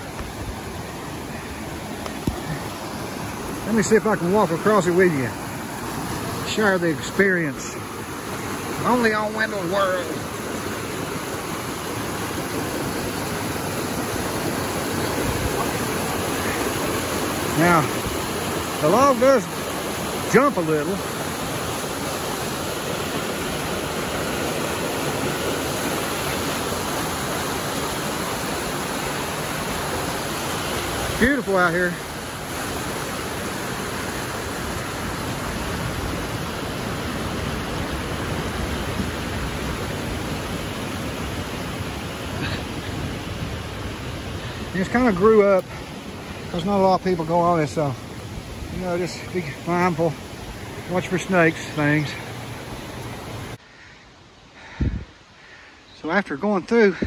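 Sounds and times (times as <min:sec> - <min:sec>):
creek rushing over rocks: 0:00.0 - 0:57.0.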